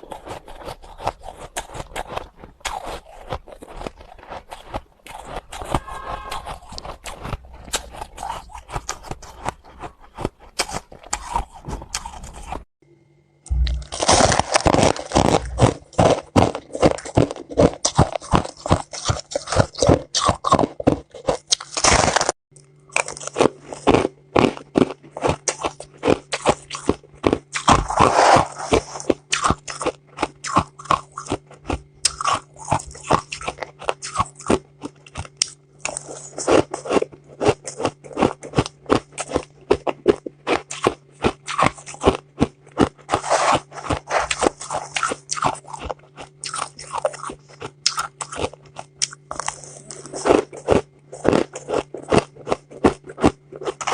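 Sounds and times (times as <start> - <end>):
ice crunching while chewed: 0.0 - 12.7, 13.5 - 53.9
faint steady hum: 0.0 - 53.9.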